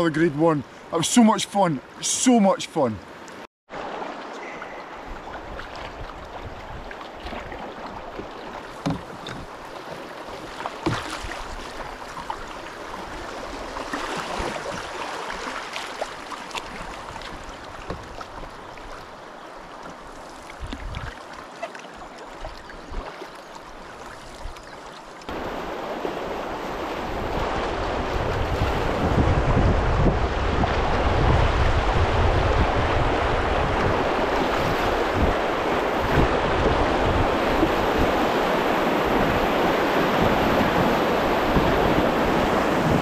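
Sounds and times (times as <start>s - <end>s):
river water rushing: 0.7s - 20.1s, 25.3s - 29.2s, 30.3s - 43.0s
paddle strokes in water: 3.0s - 43.0s.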